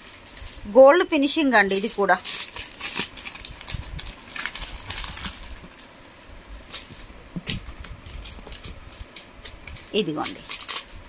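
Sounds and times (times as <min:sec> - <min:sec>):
plastic packet rustling: 0:00.0 - 0:11.0.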